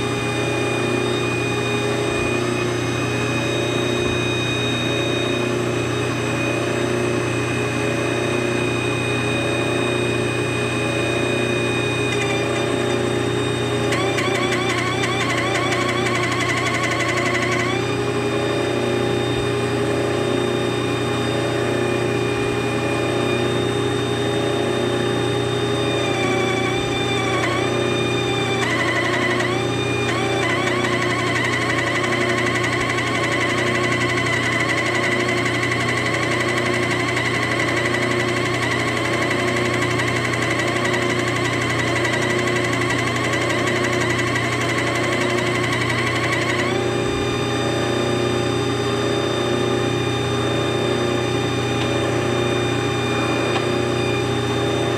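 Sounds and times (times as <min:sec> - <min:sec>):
pencil grinder whining: 0:00.0 - 0:54.9
lathe humming: 0:00.1 - 0:19.3, 0:21.8 - 0:48.9.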